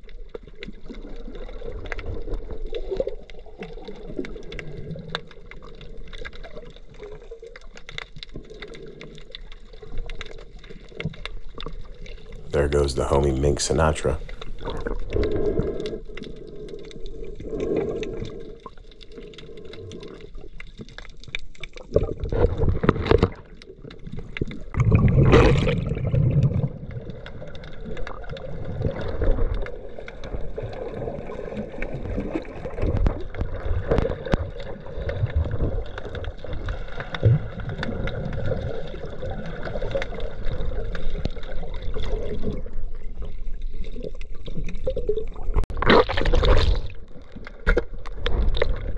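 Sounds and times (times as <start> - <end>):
rushes of bubbles and water: 0.0 - 48.9
underwater sloshing and gurgling: 0.0 - 48.9.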